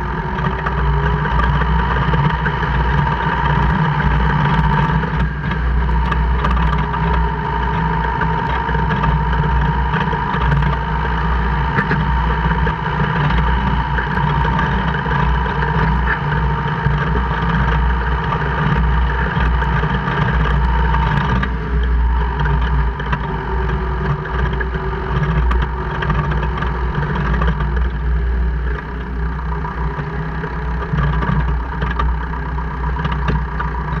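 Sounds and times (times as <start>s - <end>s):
car engine rumble: 0.0s - 34.0s.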